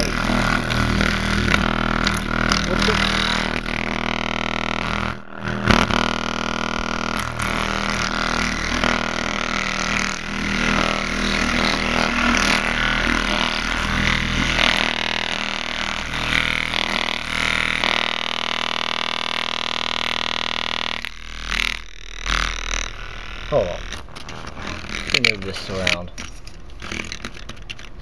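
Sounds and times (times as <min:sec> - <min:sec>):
distorted speaker buzzing drone: 0:00.0 - 0:28.0.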